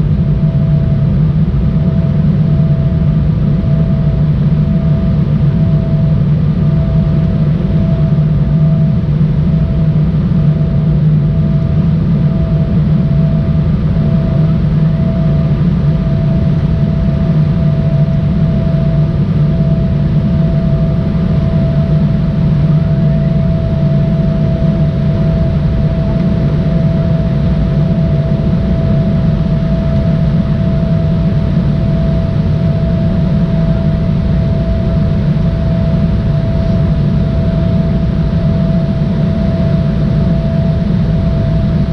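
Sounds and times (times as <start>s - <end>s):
jet engine cabin rumble: 0.0s - 41.9s
turbofan whine: 0.0s - 41.9s.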